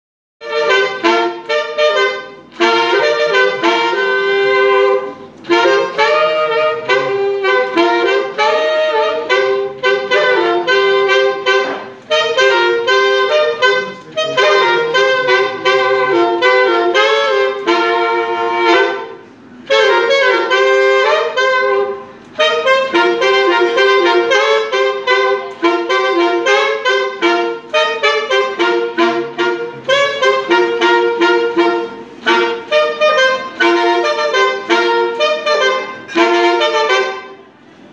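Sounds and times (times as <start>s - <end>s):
two saxophones playing melody: 0.4s - 37.6s.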